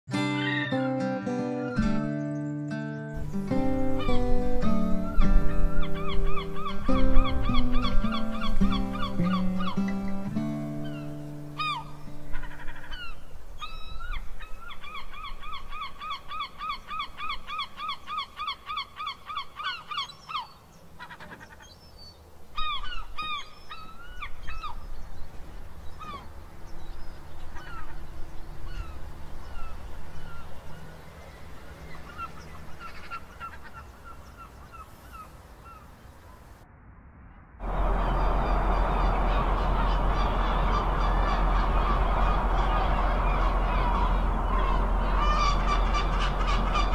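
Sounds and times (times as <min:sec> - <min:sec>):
gulls calling: 0:03.2 - 0:21.8, 0:22.5 - 0:36.6, 0:37.6 - 0:46.9.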